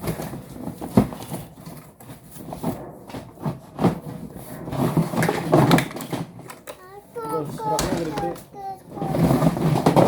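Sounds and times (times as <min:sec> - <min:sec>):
plastic parts knocking and clattering: 0:00.0 - 0:10.0.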